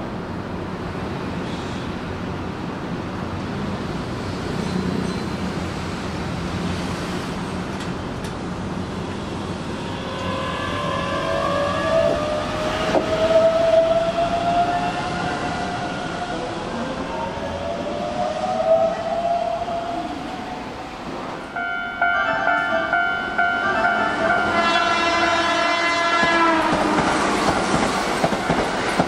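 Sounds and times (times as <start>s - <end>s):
electric train humming: 5.5s - 29.0s.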